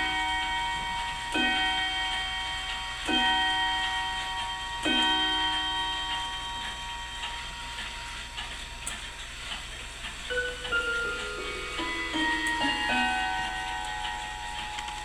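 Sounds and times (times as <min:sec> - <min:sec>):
clock striking the hour: 0:00.0 - 0:15.0
clock ticking: 0:00.0 - 0:15.0.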